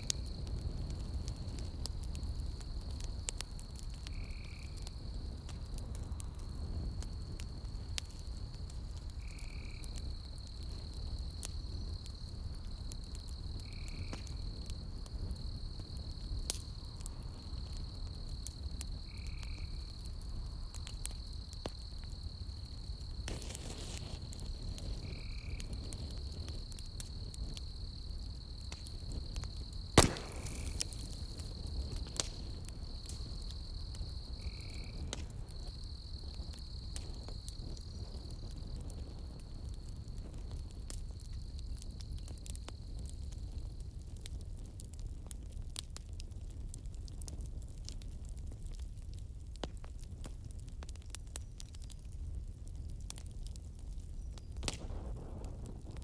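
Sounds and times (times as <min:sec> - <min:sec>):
night insects droning: 0:00.0 - 0:50.0
campfire crackling and popping: 0:00.0 - 0:56.0.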